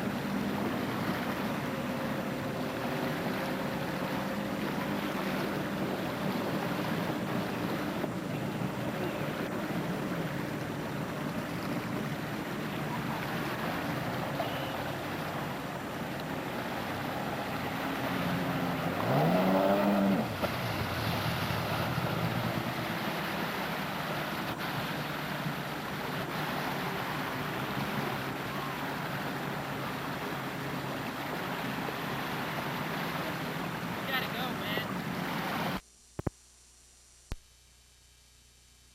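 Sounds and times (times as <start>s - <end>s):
jet ski engine revving: 0.0s - 35.8s
wind and water noise: 0.0s - 36.3s.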